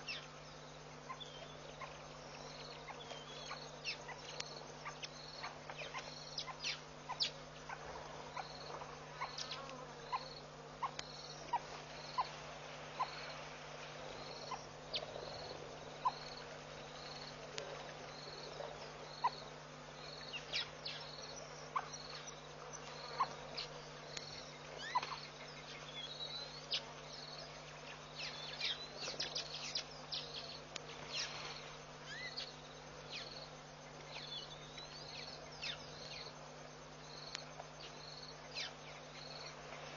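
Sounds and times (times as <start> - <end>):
insect chirping: 0.0 - 39.9
steady low hum: 0.0 - 39.9.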